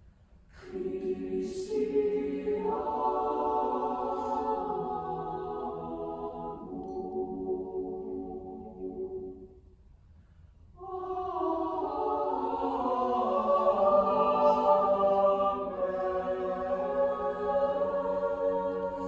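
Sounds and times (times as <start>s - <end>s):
choir singing: 0.5s - 9.5s, 10.8s - 19.0s.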